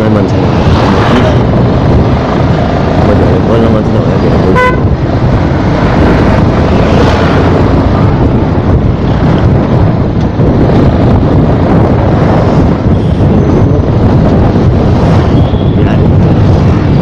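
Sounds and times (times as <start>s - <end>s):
motorcycle riding: 0.0s - 17.0s
wind rushing over microphone: 0.0s - 17.0s.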